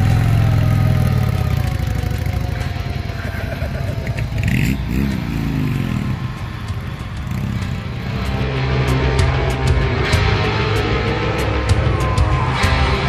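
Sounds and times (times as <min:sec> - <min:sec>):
motorcycle engines pulling away: 0:00.0 - 0:13.0.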